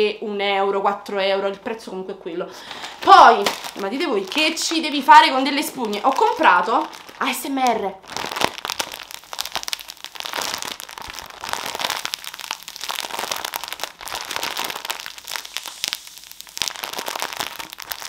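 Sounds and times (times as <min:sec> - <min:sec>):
plastic wrap crinkling: 0:02.2 - 0:18.0.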